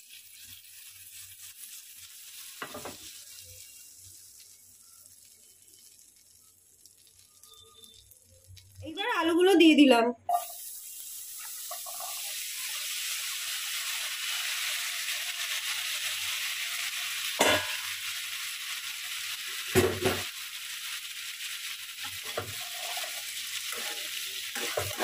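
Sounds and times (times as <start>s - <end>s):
potatoes sizzling in a pan: 0.0s - 25.0s.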